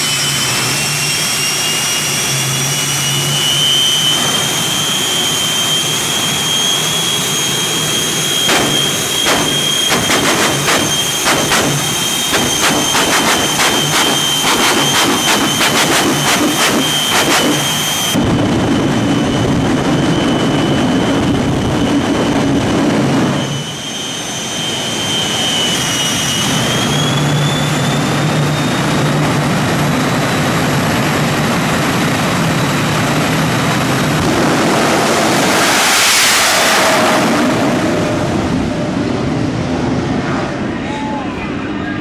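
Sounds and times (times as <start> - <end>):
jet engines whining and rumbling: 0.0 - 42.0.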